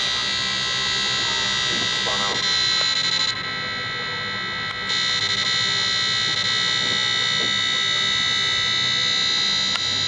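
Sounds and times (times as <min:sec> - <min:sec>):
radar detector high-pitched whistle: 0:00.0 - 0:10.0.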